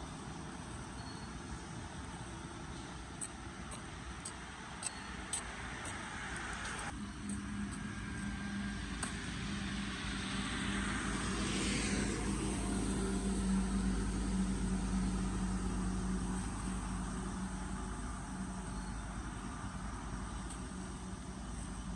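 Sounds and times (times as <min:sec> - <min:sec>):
low engine hum: 0:00.0 - 0:21.9.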